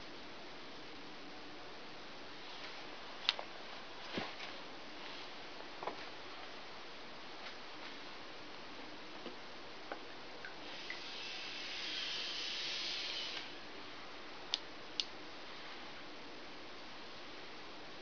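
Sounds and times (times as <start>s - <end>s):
low steady background hiss: 0.0s - 18.0s
soft hiss: 0.0s - 18.0s.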